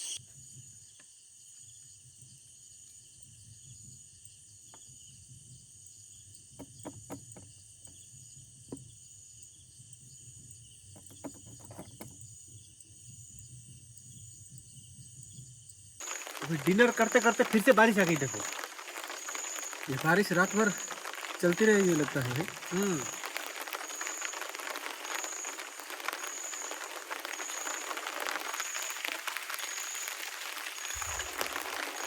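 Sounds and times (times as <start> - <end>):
crickets chirring: 0.0 - 32.0.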